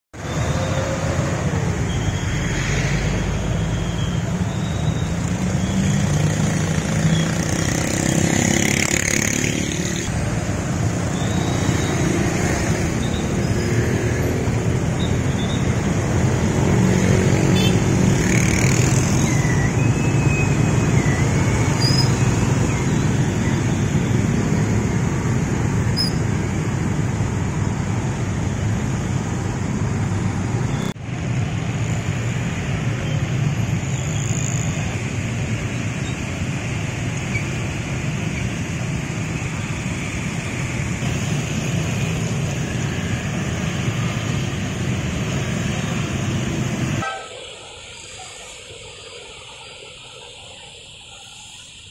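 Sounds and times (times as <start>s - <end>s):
cars running: 0.2s - 51.9s
motorcycle engines: 0.2s - 51.9s
tyres on a wet road: 0.2s - 51.9s.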